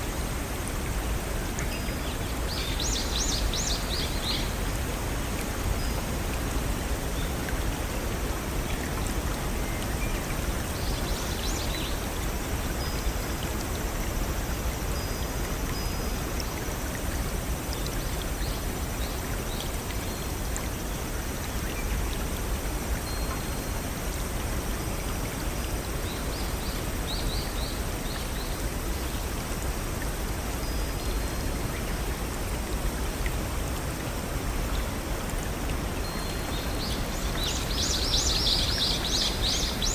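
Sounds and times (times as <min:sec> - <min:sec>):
water rushing down small waterfalls: 0:00.0 - 0:39.9.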